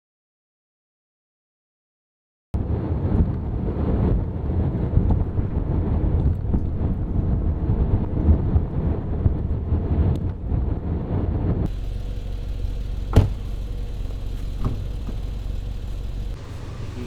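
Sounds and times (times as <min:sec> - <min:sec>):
wind buffeting microphone: 0:02.6 - 0:17.0.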